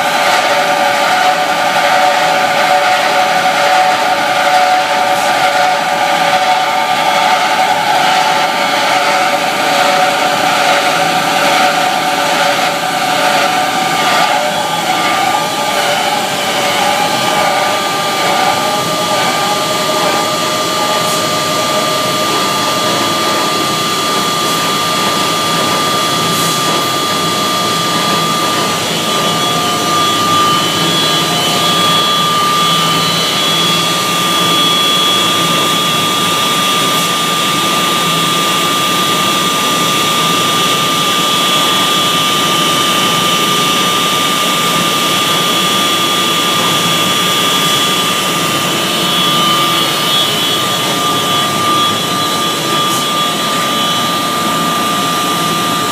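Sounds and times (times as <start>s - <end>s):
belt-driven machine running: 0.0s - 55.9s
high-pitched whine: 0.0s - 55.9s.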